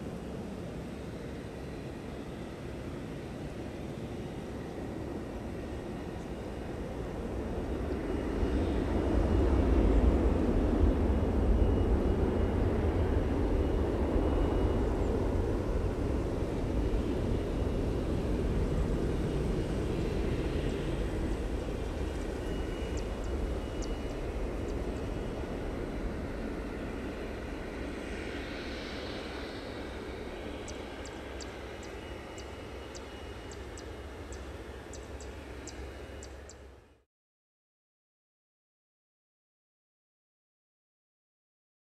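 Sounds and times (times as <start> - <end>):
jet engines at high thrust: 0.0 - 37.0.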